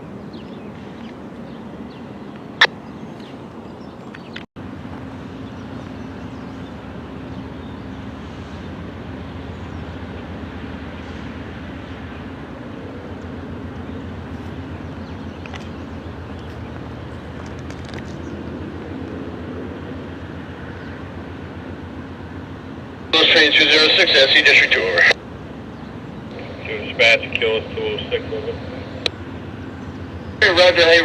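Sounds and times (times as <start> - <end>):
diesel locomotive engine rumbling: 0.0 - 31.0.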